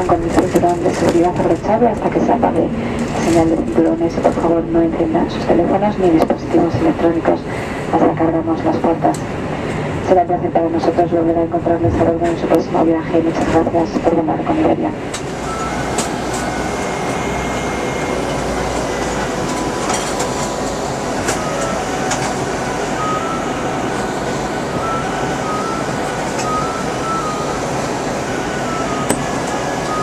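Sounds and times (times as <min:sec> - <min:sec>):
aircraft cabin engine and airflow rush: 0:00.0 - 0:30.0.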